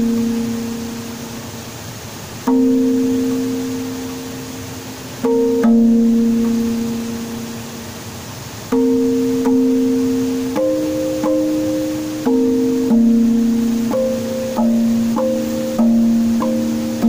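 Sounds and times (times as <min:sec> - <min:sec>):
slow keyboard music: 0:00.0 - 0:01.6, 0:02.4 - 0:08.0, 0:08.7 - 0:17.0.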